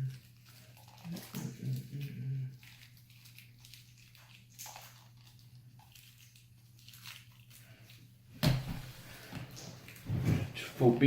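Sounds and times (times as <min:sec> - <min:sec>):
plastic crinkling being peeled: 0:00.0 - 0:11.0.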